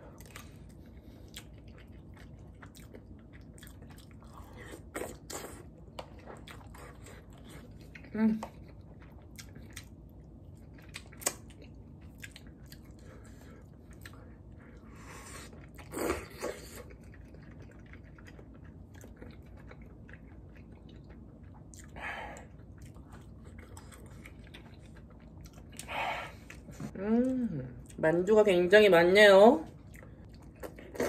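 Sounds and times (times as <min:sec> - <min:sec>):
close-miked chewing: 0:00.0 - 0:26.9, 0:29.7 - 0:31.0.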